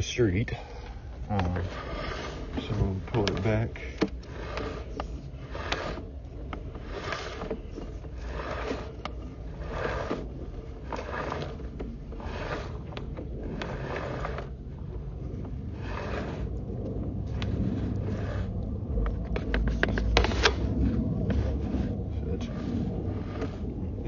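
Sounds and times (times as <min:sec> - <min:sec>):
steady low rumble: 0:00.0 - 0:24.0
cable scraping swish: 0:01.2 - 0:24.0.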